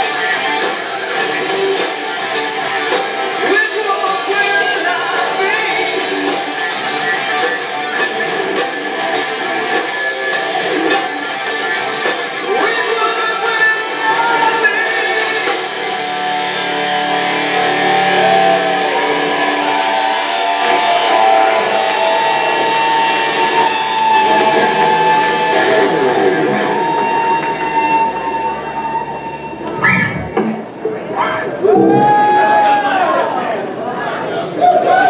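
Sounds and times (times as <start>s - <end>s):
distorted electric guitars: 0.0s - 32.6s.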